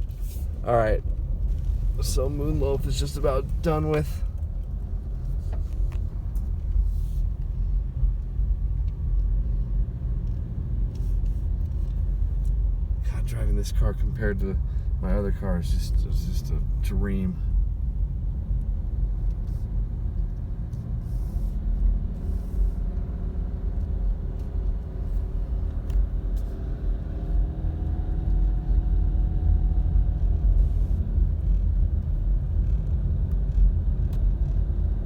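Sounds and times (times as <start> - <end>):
road and engine rumble: 0.0 - 35.0.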